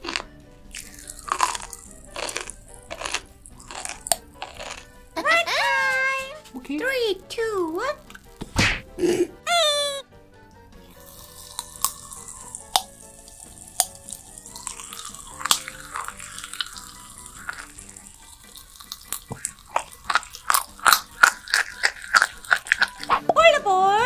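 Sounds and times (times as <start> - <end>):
popping candy crackling: 0.0 - 24.0.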